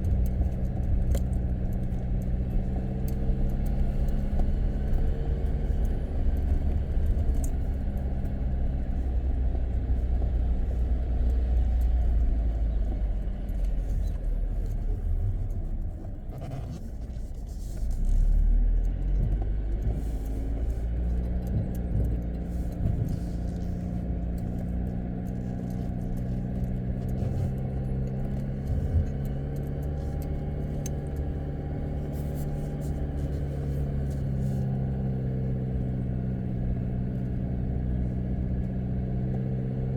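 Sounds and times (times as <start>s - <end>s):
car engine low rumble: 0.0s - 39.9s.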